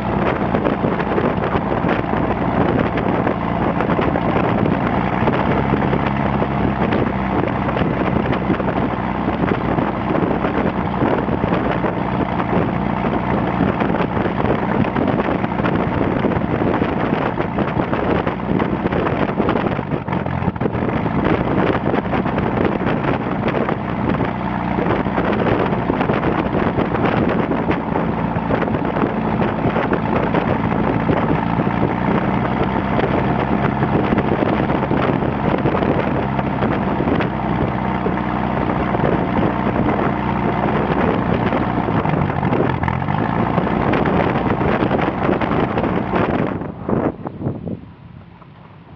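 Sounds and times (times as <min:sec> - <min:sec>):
propeller aircraft engine running: 0:00.0 - 0:48.9
wind buffeting microphone: 0:00.0 - 0:48.9.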